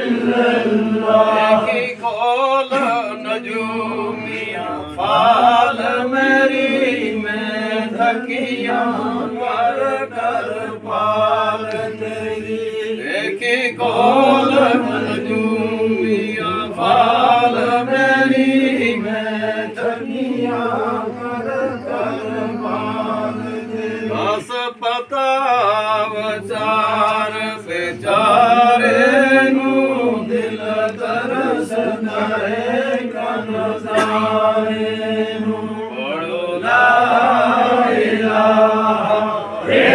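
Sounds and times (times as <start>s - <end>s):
men chanting together: 0.0s - 39.9s.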